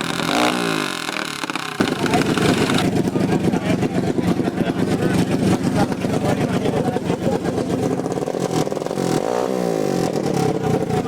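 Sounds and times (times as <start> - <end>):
minibike engines running: 0.0 - 9.3, 9.9 - 11.0
minibike engine revving: 0.0 - 11.0.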